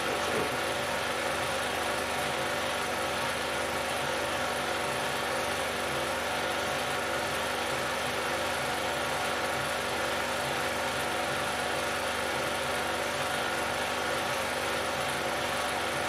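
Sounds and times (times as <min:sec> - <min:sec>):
film projector whirring: 0:00.0 - 0:16.0.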